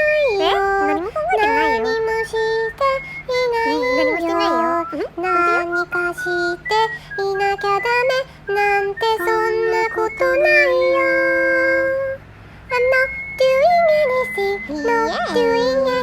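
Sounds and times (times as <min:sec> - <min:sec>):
high child-like singing: 0:00.0 - 0:16.0
light backing music: 0:00.0 - 0:16.0.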